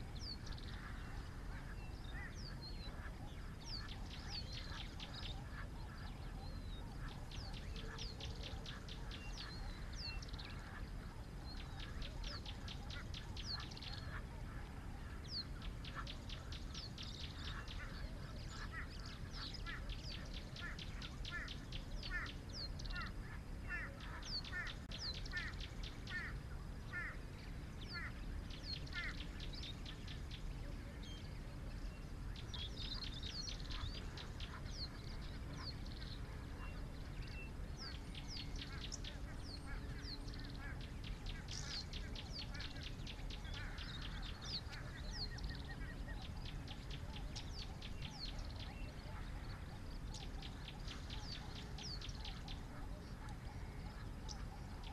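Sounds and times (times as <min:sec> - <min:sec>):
birds chirping and trilling: 0:00.0 - 0:54.9
low background rumble: 0:00.0 - 0:54.9.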